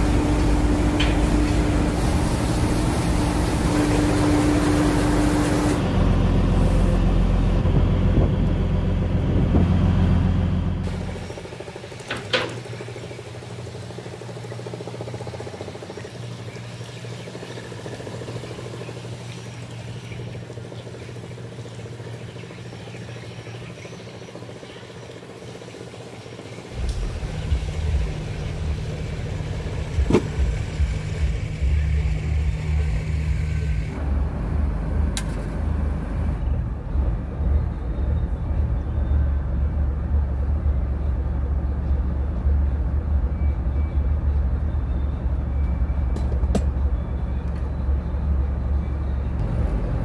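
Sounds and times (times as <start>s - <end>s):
boat engine rumbling: 0.0s - 50.0s.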